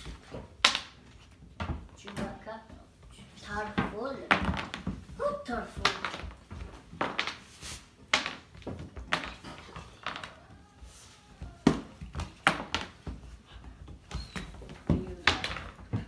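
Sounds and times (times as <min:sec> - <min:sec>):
puppy paws tapping on hardwood floor: 0:00.0 - 0:07.4, 0:08.1 - 0:16.0.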